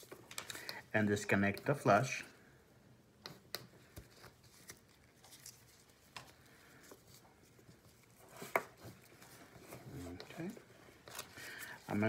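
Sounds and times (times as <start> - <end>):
soft rustling of supplies: 0.0 - 12.0.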